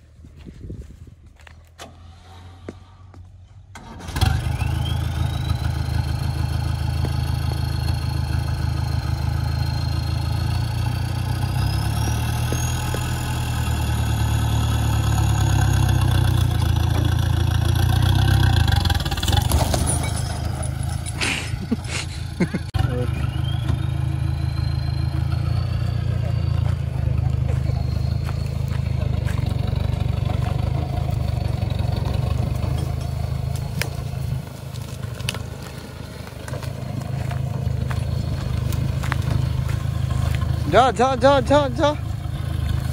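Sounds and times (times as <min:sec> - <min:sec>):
diesel engine revving under load: 0:01.8 - 0:42.9.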